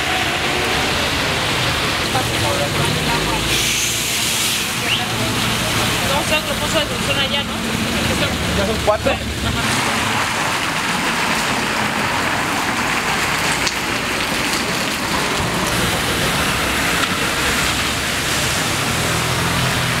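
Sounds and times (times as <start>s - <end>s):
rain falling on street: 0.0s - 20.0s.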